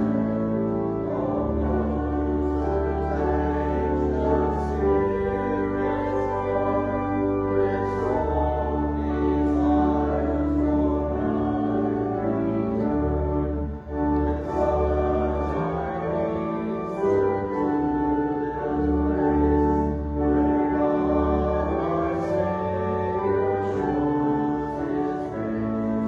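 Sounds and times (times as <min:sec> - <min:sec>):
hymn singing: 0:00.0 - 0:26.0
organ chords: 0:00.0 - 0:26.0.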